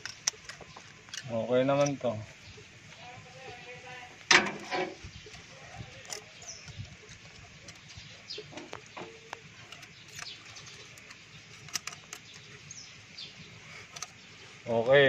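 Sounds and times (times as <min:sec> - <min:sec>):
metal tool clicking on engine: 0:00.0 - 0:02.1, 0:04.3 - 0:14.3
birds chirping faintly: 0:00.0 - 0:15.0.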